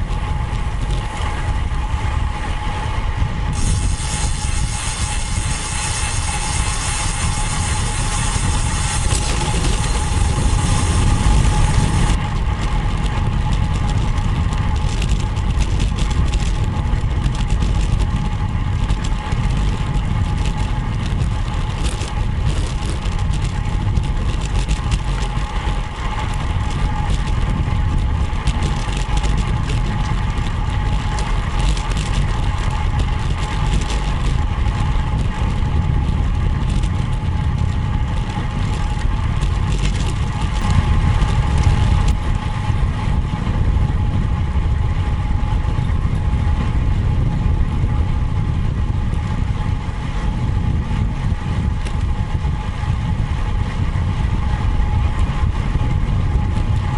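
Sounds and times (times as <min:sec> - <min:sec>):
faint constant whine: 0:00.0 - 0:56.9
wind buffeting microphone: 0:00.0 - 0:56.9.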